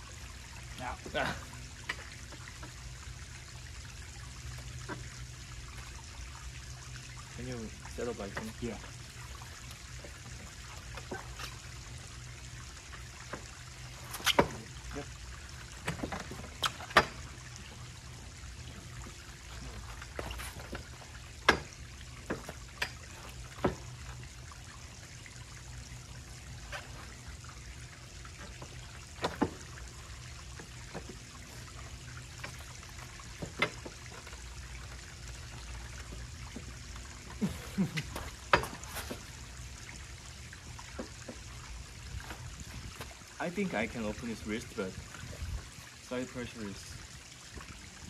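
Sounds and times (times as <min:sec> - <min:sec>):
trickling background: 0:00.0 - 0:48.0.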